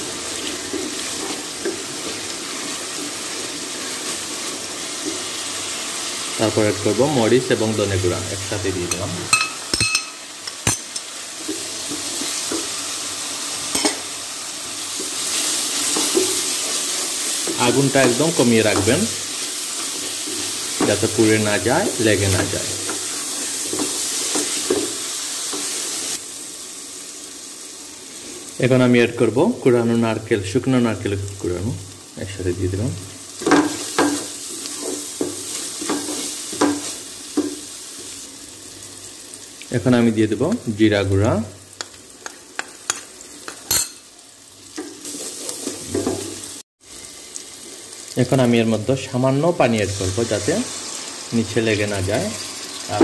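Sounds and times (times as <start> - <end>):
spices sizzling in a pot: 0.0 - 53.0.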